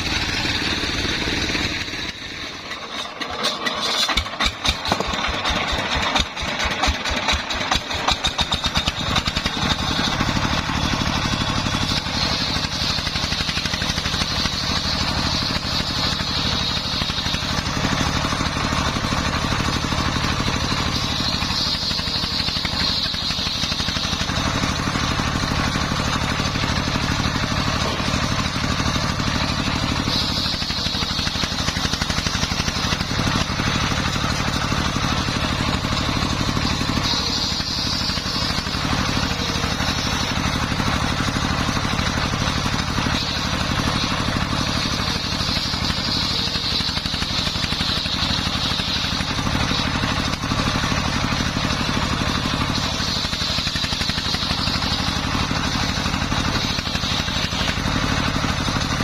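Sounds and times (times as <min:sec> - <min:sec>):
diesel engine running: 0:00.0 - 0:59.0
high saw whine: 0:00.0 - 0:59.0.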